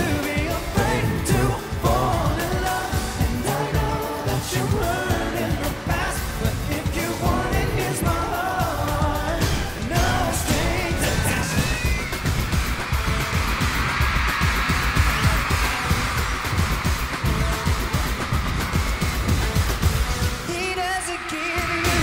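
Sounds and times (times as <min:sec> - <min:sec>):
driving dance beat: 0:00.0 - 0:22.0
male pop vocals: 0:00.0 - 0:22.0.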